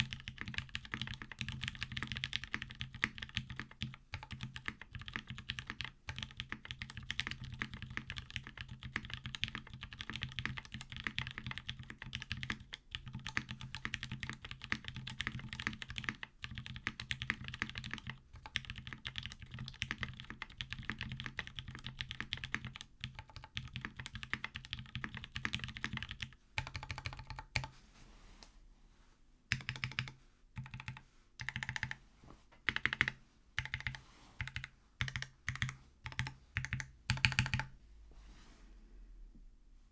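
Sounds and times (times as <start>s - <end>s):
typing on mechanical keyboard: 0.0s - 27.7s, 29.5s - 32.0s, 32.7s - 37.7s.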